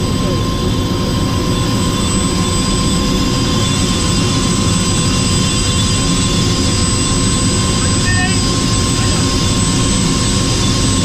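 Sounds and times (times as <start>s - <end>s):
helicopter engine and rotor: 0.0s - 11.0s
high whine: 0.0s - 11.0s.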